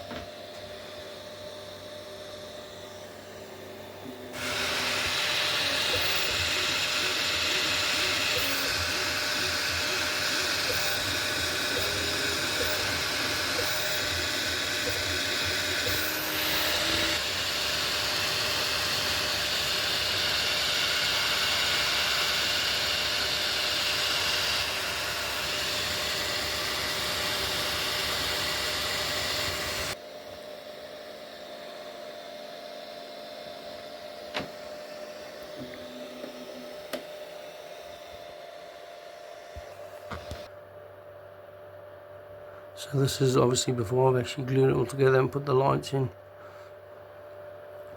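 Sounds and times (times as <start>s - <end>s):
machine whirring: 0.0s - 40.5s.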